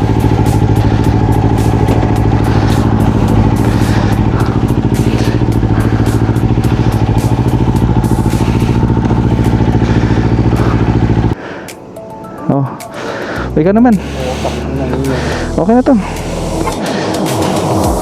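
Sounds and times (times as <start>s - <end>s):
motorcycle engine idling: 0.0s - 11.4s, 13.2s - 18.0s.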